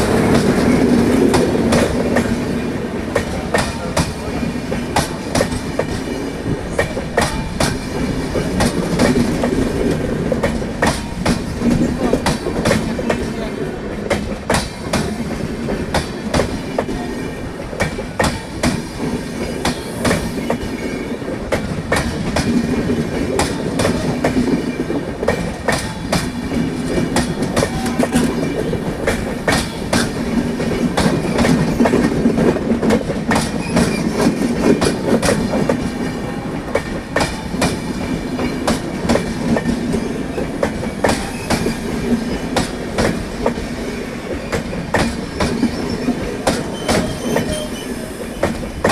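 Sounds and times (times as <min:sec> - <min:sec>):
train rumble: 0:00.0 - 0:48.9
train wheels clattering over rail joints: 0:00.0 - 0:48.9.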